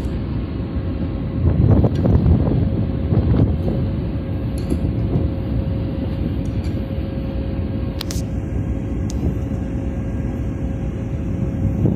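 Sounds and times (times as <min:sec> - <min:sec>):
constant hum: 0:00.0 - 0:11.9
low machine rumble: 0:00.0 - 0:11.9.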